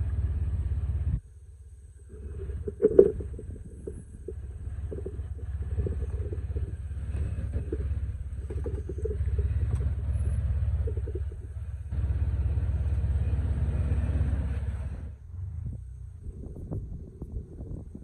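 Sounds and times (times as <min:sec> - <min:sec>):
engine rumbling low: 0:00.0 - 0:18.0.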